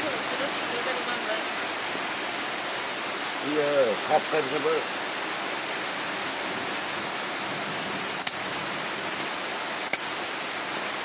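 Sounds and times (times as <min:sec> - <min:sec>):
steady hiss: 0:00.0 - 0:10.8.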